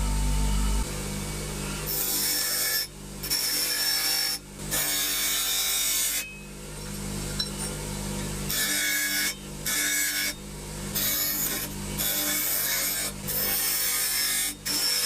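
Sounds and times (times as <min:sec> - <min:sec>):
steady motor hum: 0:00.0 - 0:15.0.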